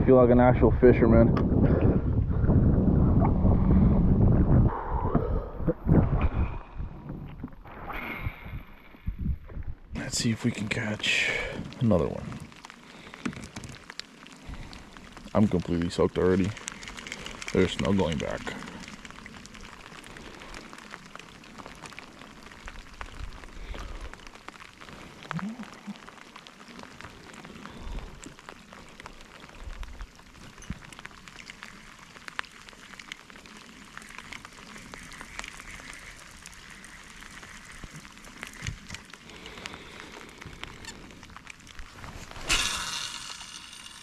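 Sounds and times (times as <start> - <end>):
rain falling steadily: 4.7 - 44.0.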